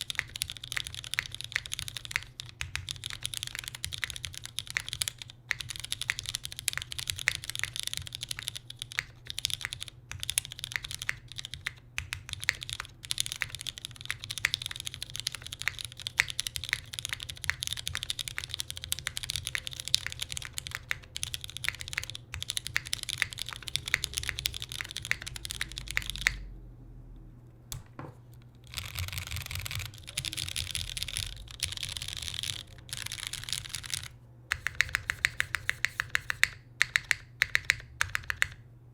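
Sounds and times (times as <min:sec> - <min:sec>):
mechanical keyboard key clacks: 0:00.0 - 0:26.4, 0:28.6 - 0:38.6.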